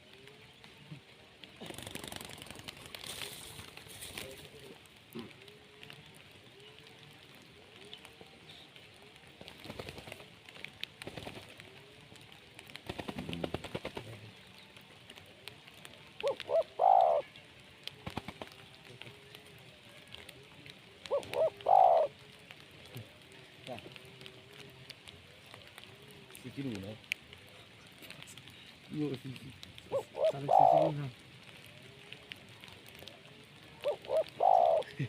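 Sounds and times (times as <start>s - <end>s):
doves cooing: 0.0s - 35.0s.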